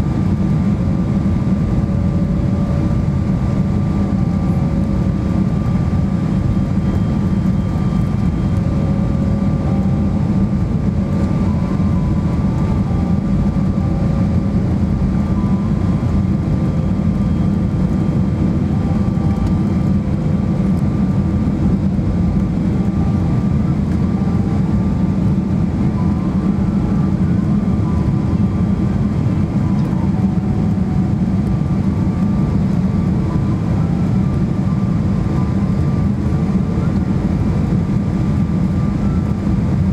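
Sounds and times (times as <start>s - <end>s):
airplane cabin engine rumble: 0.0s - 39.9s
faint steady whine tones: 0.0s - 39.9s.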